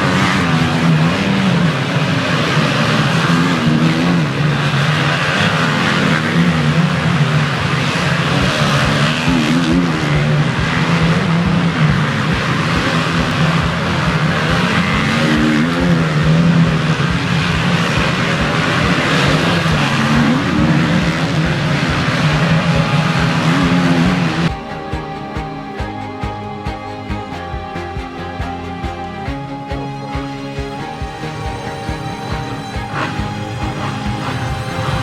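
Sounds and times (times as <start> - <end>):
motocross bikes revving: 0.0 - 25.8, 30.2 - 35.0.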